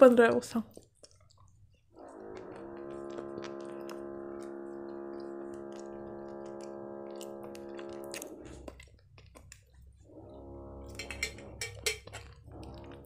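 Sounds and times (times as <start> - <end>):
wet chewing clicks: 0.5 - 13.0.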